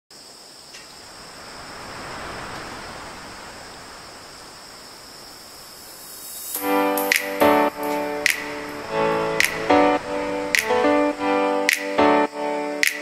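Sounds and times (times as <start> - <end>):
sea waves washing on beach: 0.4 - 12.0.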